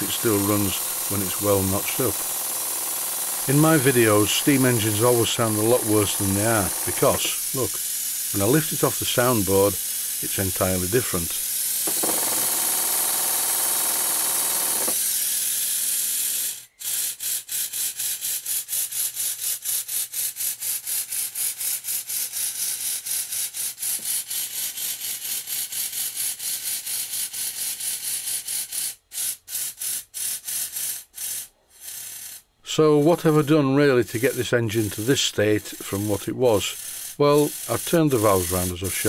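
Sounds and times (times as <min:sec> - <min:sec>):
model steam engine running: 0:00.0 - 0:39.0.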